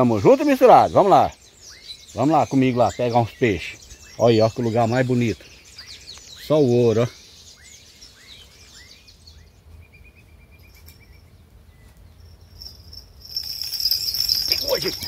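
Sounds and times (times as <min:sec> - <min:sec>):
bird trill: 0:00.0 - 0:15.0
birds chirping: 0:00.0 - 0:15.0.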